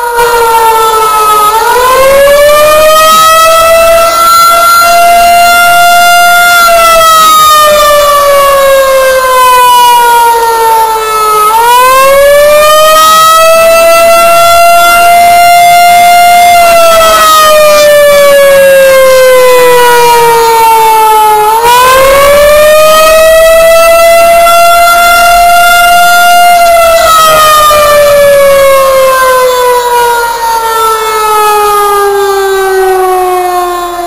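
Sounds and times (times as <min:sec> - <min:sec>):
outdoor warning siren wailing: 0:00.0 - 0:34.0.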